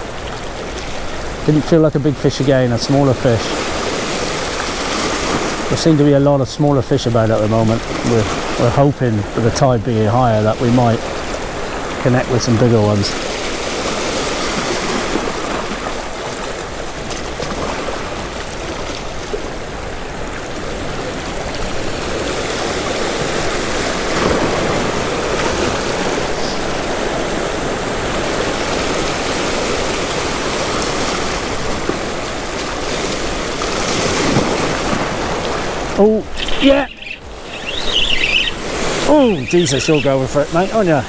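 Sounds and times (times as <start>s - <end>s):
waves splashing around rocks: 0.0s - 41.0s.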